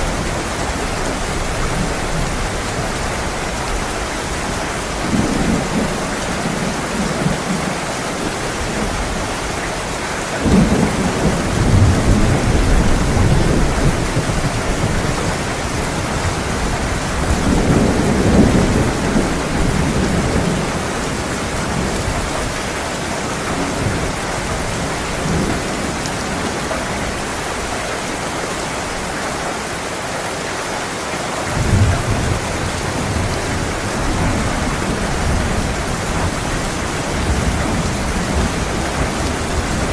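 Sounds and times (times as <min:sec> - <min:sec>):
thunder rumbling: 0:00.0 - 0:09.4, 0:10.4 - 0:27.8, 0:31.5 - 0:39.9
heavy rain pouring: 0:00.0 - 0:39.9.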